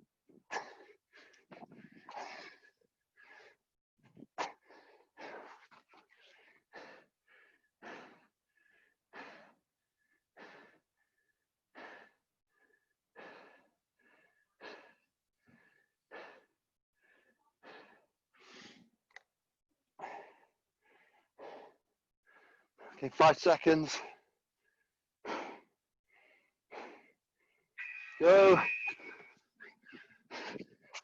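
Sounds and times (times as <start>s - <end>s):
person breathing hard: 0.5s - 3.7s, 4.4s - 19.0s, 20.0s - 23.0s, 24.0s - 28.3s, 29.0s - 31.0s.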